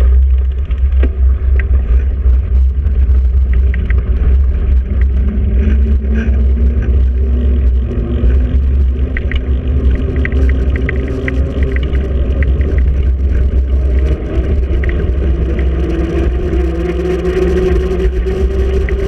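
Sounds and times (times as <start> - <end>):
wind and road rumble: 0.0 - 19.0.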